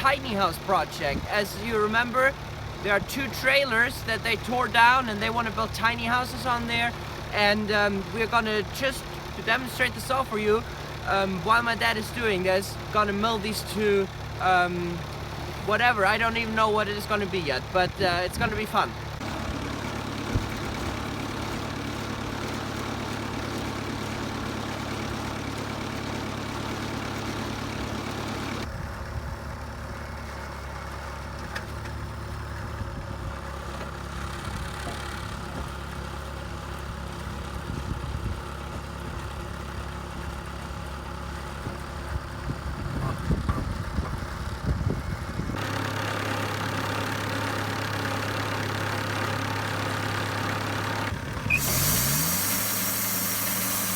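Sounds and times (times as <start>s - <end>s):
sawmill engine running: 0.0s - 53.9s.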